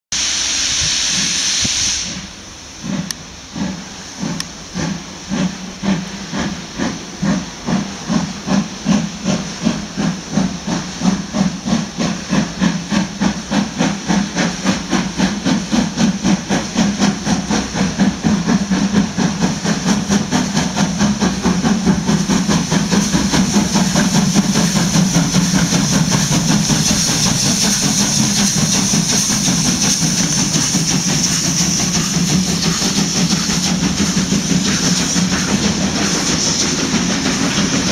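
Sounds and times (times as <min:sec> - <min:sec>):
steam locomotive exhaust chuffs: 0:00.2 - 0:37.9.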